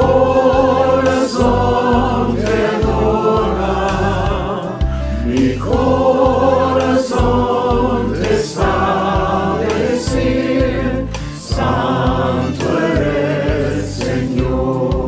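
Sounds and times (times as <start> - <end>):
bass accompaniment: 0.0 - 15.0
voices singing together: 0.0 - 15.0.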